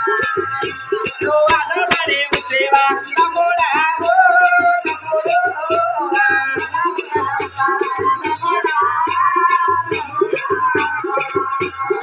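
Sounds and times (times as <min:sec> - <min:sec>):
devotional folk song singing: 0:00.0 - 0:12.0
jingling metal percussion: 0:00.0 - 0:12.0
quick drum beat: 0:00.0 - 0:12.0.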